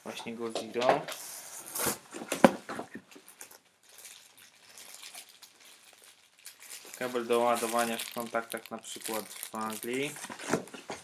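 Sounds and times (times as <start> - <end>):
plastic bag rustling and crinkling: 1.8 - 11.0.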